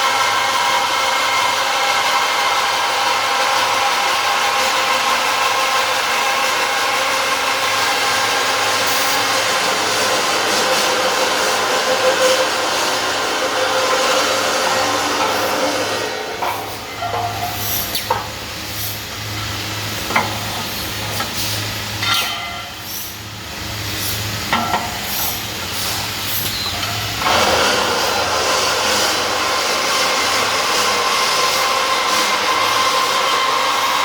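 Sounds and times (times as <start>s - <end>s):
machinery humming: 0.0s - 34.0s
loud steady hiss: 2.9s - 34.0s.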